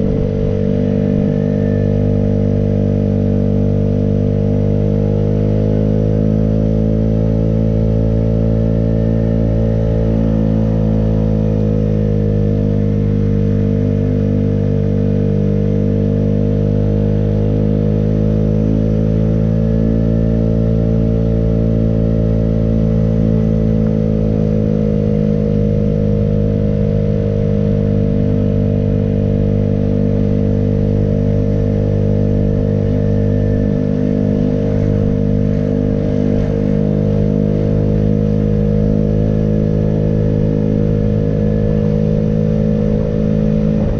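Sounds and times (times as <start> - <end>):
small motorbike engine running: 0.0 - 43.9.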